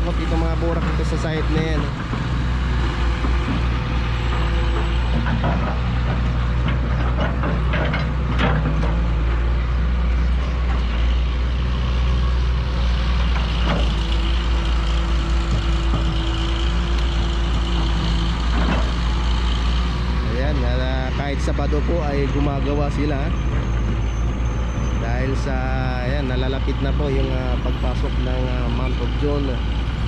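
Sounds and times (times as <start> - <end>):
backhoe diesel engines rumbling: 0.0 - 30.0.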